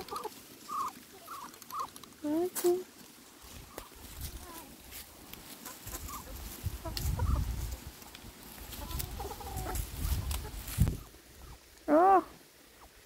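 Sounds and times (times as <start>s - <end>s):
chickens clucking: 0.0s - 2.2s, 3.4s - 11.7s.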